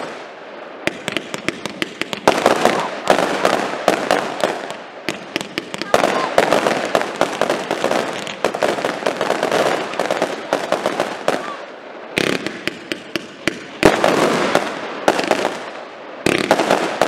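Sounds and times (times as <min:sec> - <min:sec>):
fireworks crackling pops: 0:00.0 - 0:17.0
fireworks sharp bangs: 0:00.0 - 0:17.0.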